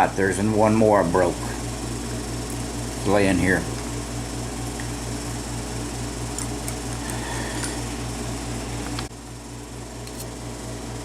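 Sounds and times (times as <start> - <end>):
fan humming with pulsing tone: 0.0 - 11.0.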